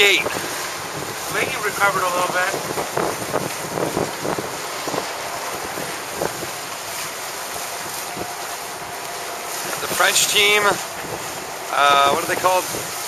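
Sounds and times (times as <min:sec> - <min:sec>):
water rushing: 0:00.0 - 0:13.0
wind buffeting the microphone: 0:00.0 - 0:13.0.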